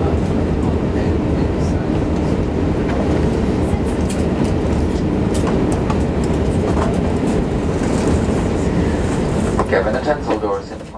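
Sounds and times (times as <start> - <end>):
aircraft cabin low rumble: 0.0 - 10.9.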